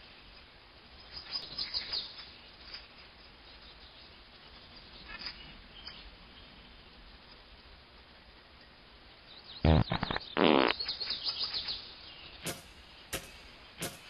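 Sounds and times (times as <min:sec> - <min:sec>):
faint outdoor background noise: 0:00.0 - 0:14.0
wild birds chirping: 0:00.0 - 0:14.0.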